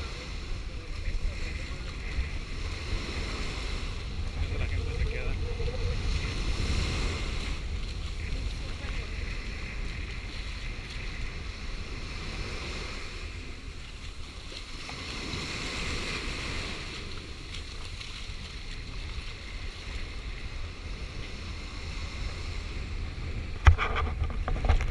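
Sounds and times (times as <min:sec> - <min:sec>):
small waves lapping on sand: 0:00.0 - 0:24.9
wind rumbling on microphone: 0:00.0 - 0:24.9.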